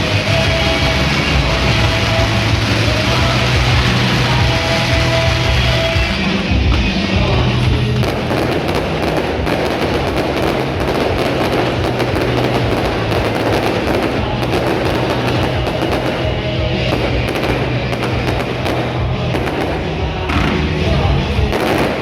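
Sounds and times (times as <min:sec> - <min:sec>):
fireworks crackling and popping: 0:00.0 - 0:22.0
loud rock music: 0:00.0 - 0:22.0.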